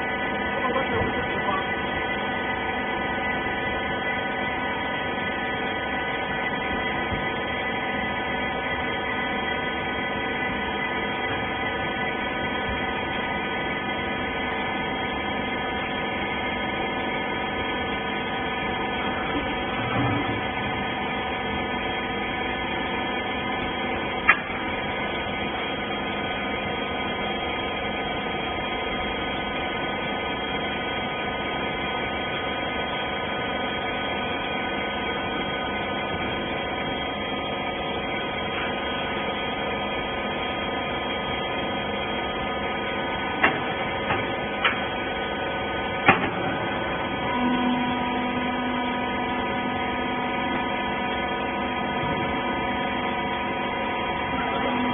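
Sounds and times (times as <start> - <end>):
baler mechanical hum: 0.0 - 54.9.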